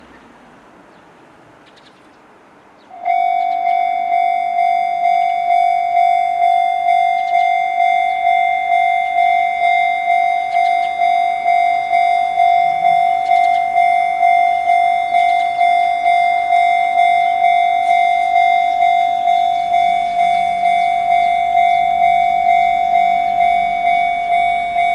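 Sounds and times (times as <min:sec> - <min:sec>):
level crossing warning bell: 0:02.9 - 0:24.9.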